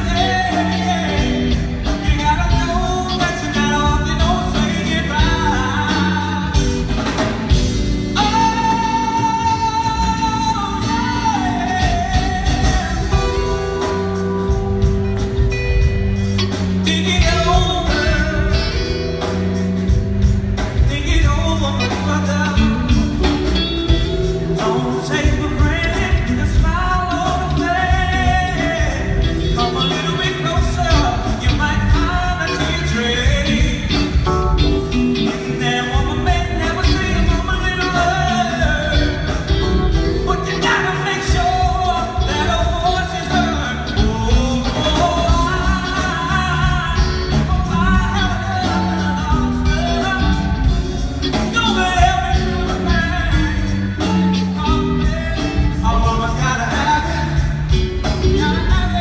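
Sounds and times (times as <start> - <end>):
live band music: 0.0 - 59.0
man singing: 0.0 - 59.0.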